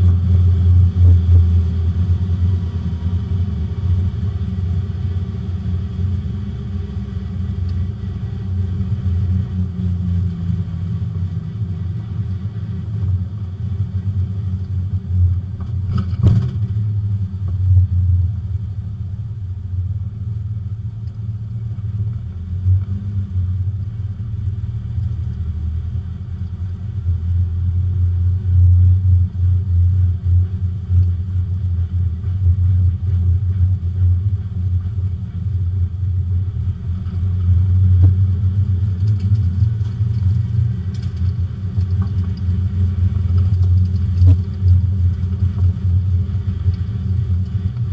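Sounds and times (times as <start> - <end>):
race car engine droning: 0.0 - 47.9.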